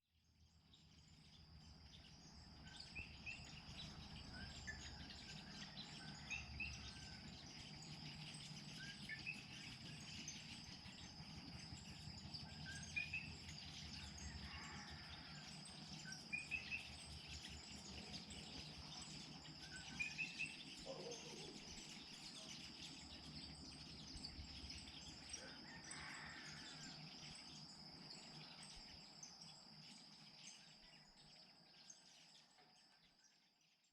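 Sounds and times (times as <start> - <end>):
high insect drone: 0.4 - 33.5
birds chirping: 0.8 - 33.3.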